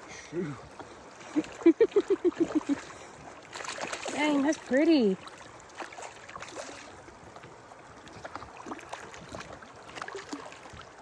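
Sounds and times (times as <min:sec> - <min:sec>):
light water sounds: 0:00.0 - 0:11.0.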